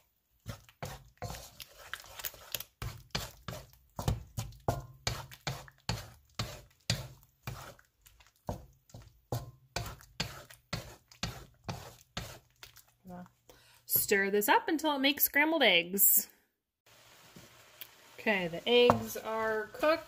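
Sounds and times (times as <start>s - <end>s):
wooden spatula scraping in a wok: 0.0s - 14.2s, 16.9s - 20.0s.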